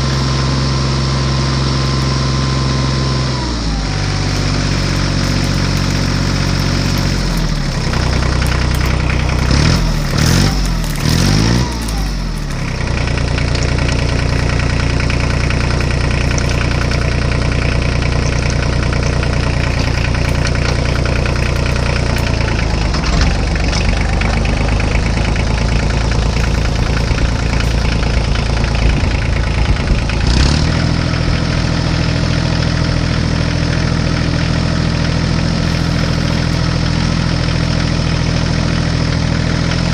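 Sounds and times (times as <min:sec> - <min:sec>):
tractor engine idling and revving: 0:00.0 - 0:39.9.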